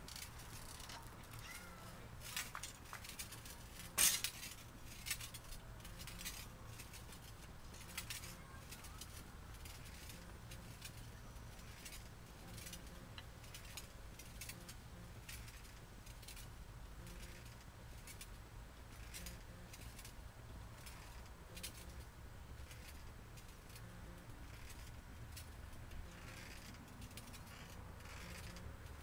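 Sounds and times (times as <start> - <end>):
wheelchair rocking metallic clicks: 0.0 - 18.3, 18.9 - 20.2, 20.8 - 29.0.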